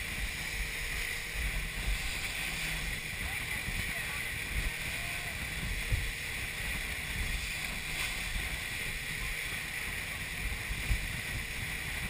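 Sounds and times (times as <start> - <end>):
motorboat engine and water rush: 0.0 - 12.0
wind buffeting microphone: 0.0 - 12.0.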